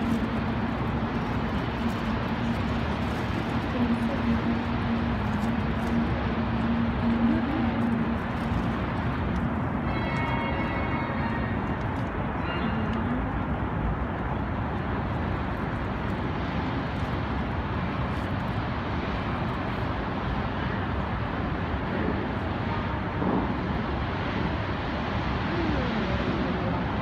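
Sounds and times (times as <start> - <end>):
steady outdoor rushing noise: 0.0 - 27.0.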